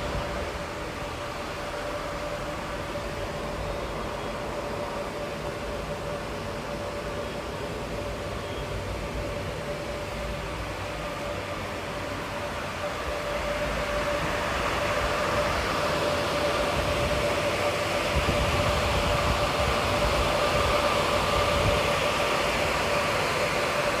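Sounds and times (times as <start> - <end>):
cooling fans rushing: 0.0 - 24.0
machine hum with whine: 0.0 - 24.0.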